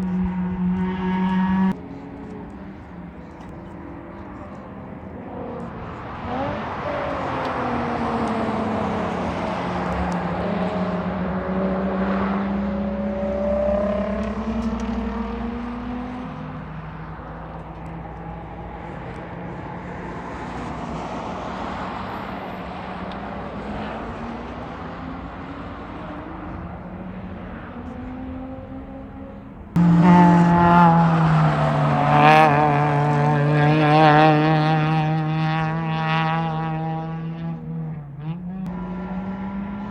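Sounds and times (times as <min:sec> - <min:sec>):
sports car engine: 0:00.0 - 0:39.9.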